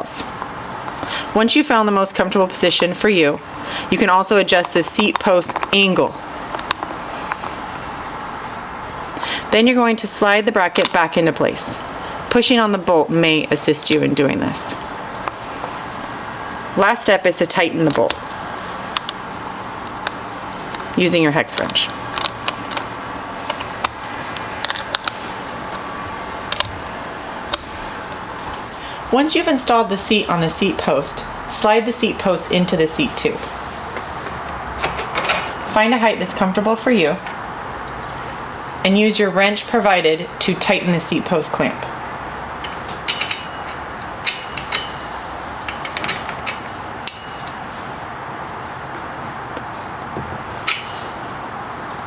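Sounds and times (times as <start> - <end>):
steady background hiss: 0.0 - 52.0.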